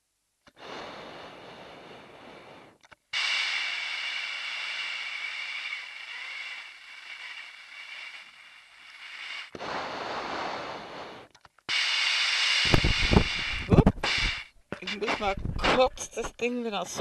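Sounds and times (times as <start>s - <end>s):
hissing breath through mask: 0.5s - 15.3s
faint steady whistle: 0.7s - 15.4s.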